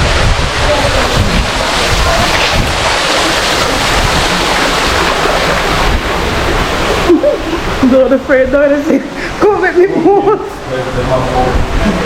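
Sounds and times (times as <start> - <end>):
sea surf rushing: 0.0 - 12.0
wind buffeting microphone: 0.0 - 12.0.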